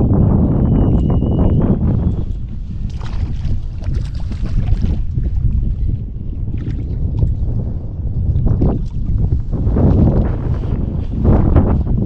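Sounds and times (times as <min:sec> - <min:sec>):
wind buffeting microphone: 0:00.0 - 0:12.0
waves lapping against hull: 0:00.9 - 0:12.0.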